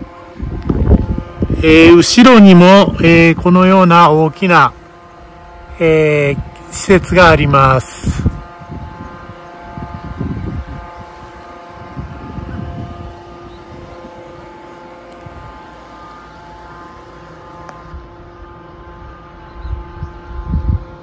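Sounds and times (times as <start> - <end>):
wind on microphone: 0.0 - 3.7, 5.1 - 14.6, 15.2 - 15.7, 17.8 - 21.0
mechanical hum: 0.0 - 21.0.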